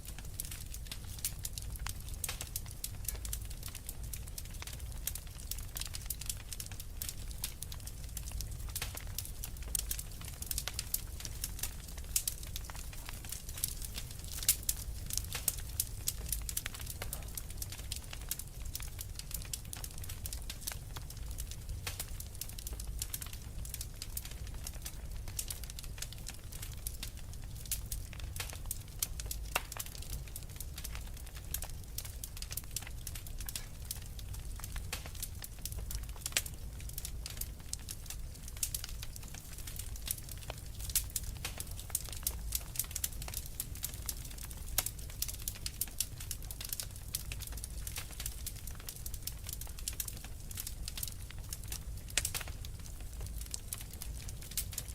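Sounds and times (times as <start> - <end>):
fire crackling and popping: 0.0 - 54.9
low rumble of flames: 0.0 - 54.9.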